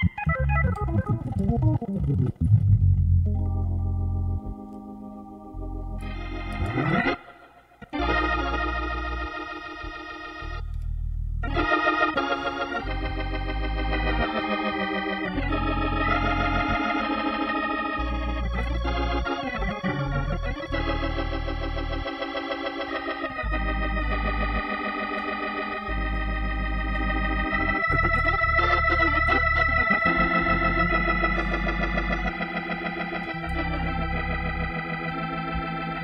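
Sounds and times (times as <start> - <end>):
organ playing jazz chords: 0.0 - 36.0.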